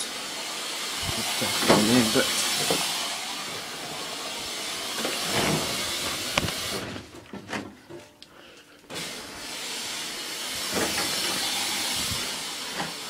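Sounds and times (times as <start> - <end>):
water hissing into washing machine: 0.0 - 7.0, 8.9 - 13.0.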